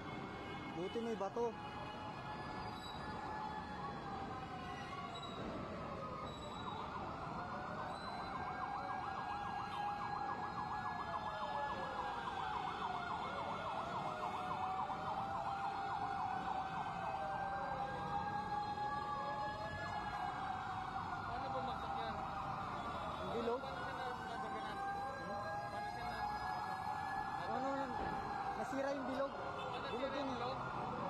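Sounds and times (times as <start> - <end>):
siren wailing: 1.2 - 31.0
siren yelping: 1.5 - 31.0.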